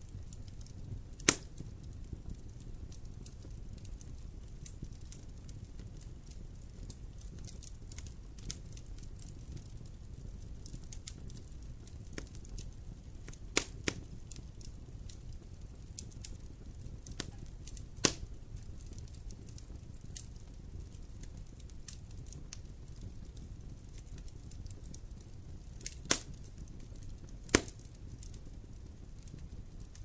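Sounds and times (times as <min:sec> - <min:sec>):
low rumble of flames: 0:00.0 - 0:30.0
sharp fire pops: 0:00.0 - 0:30.0
wood fire crackling: 0:00.0 - 0:30.0.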